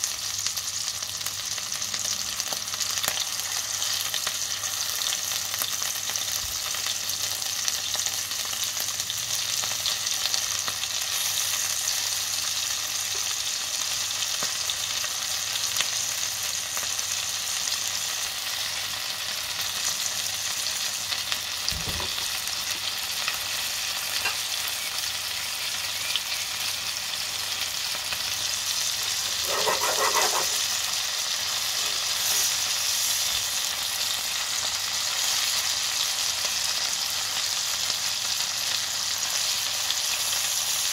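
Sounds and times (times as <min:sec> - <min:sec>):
liver sizzling in hot fat: 0:00.0 - 0:40.9.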